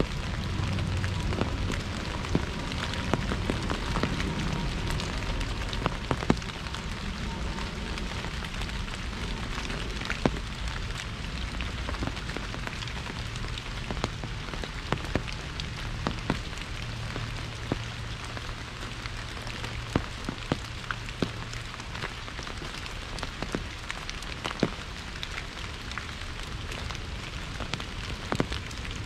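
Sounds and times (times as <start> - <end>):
rain hissing on umbrella: 0.0 - 29.0
raindrop taps: 0.0 - 29.0.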